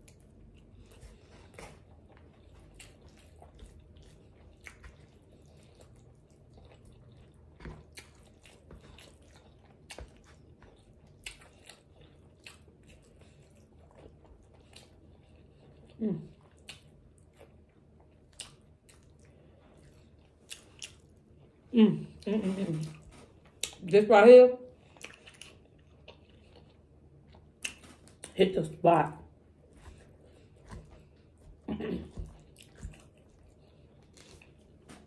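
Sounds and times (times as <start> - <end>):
person chewing food: 0.0 - 23.9, 24.7 - 28.4, 29.3 - 35.0.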